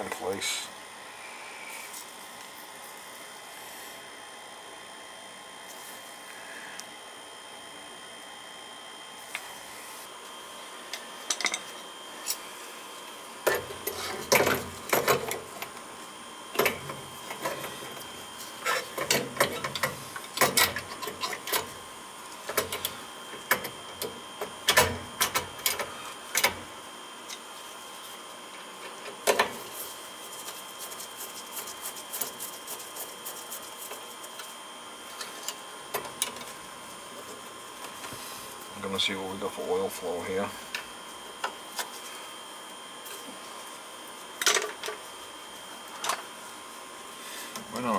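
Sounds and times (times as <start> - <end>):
faint steady high hum: 0.0 - 47.9.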